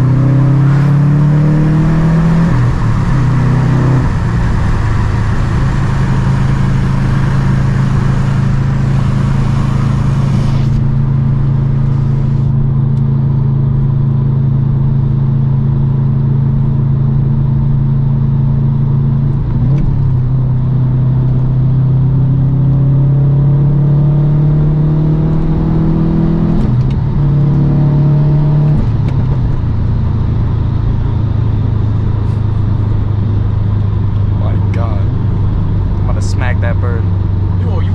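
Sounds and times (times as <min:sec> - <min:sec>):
car engine revving and cruising: 0:00.0 - 0:37.9.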